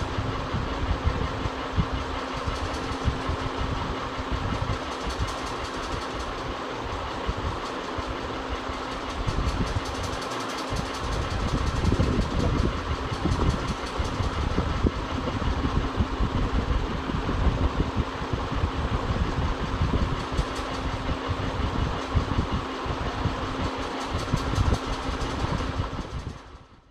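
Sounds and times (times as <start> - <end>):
ceiling fan humming: 0.0 - 26.9
fan bearing rattling: 0.0 - 26.9.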